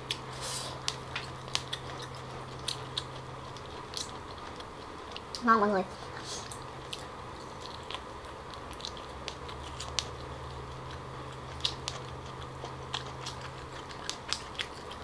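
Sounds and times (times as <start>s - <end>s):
person chewing and biting: 0.0s - 5.4s, 6.4s - 15.0s
faint low hum: 0.0s - 15.0s.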